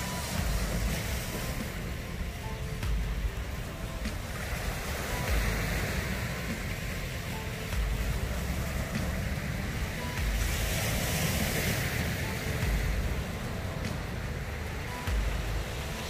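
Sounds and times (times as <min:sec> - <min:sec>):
sea waves on rocky shore: 0:00.0 - 0:16.0
wind buffeting microphone: 0:00.0 - 0:16.0.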